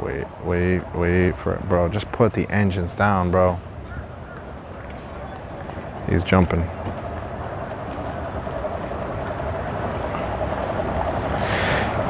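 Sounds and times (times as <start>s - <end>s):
outboard motor droning: 0.0s - 12.0s.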